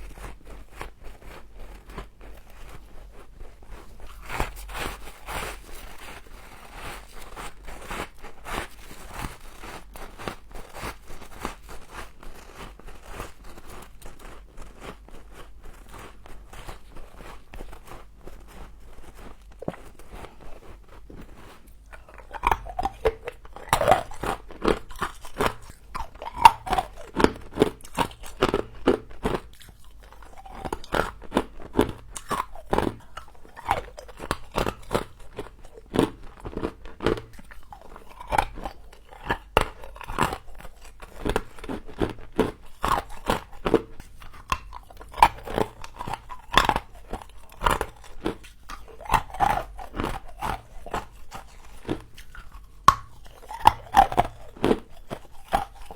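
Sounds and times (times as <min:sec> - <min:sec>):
person crunching frost: 0:00.0 - 0:55.9.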